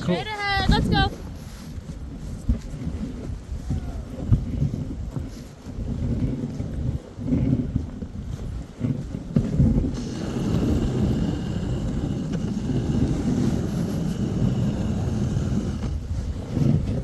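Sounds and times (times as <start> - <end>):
sled runners rumbling over snow: 0.0 - 17.0
wind buffeting microphone: 0.0 - 17.0.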